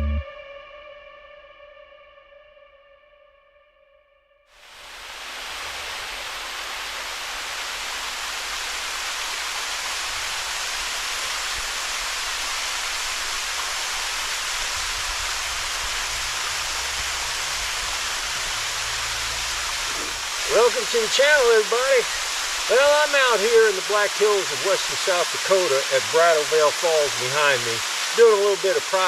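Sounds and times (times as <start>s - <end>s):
waterfall rushing: 4.6s - 29.0s.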